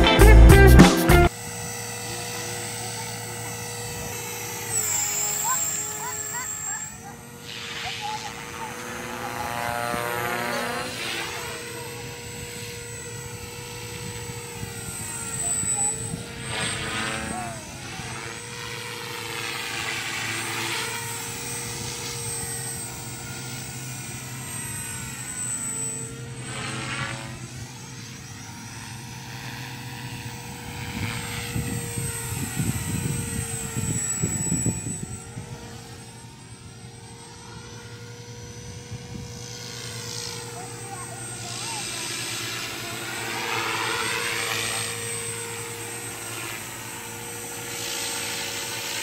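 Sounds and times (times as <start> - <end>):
rc helicopter motor whine: 0.0 - 49.0.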